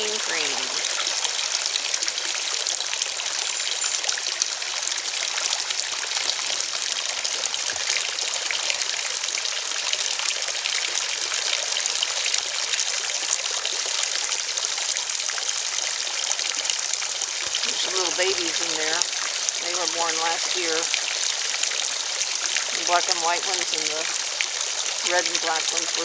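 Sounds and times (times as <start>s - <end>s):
small waterfall trickling and splashing: 0.0s - 26.0s.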